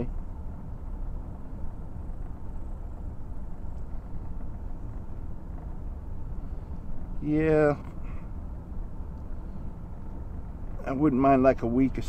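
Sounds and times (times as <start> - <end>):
pickup truck engine rumble: 0.0 - 12.0.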